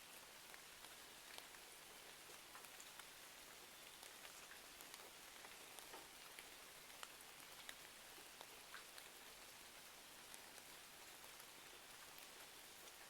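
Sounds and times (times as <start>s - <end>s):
light rain ticking: 0.0s - 13.0s.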